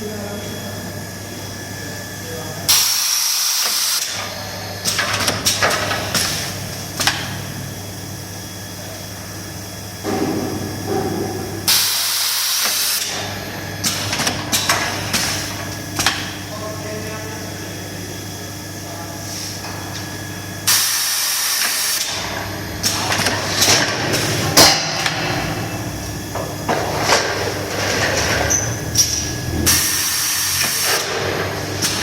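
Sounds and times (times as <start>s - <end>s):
welding machine electrical hum: 0.0s - 32.0s.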